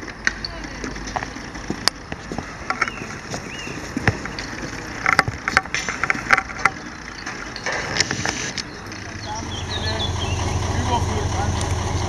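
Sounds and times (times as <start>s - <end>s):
hoses clattering on pavement: 0.0s - 12.0s.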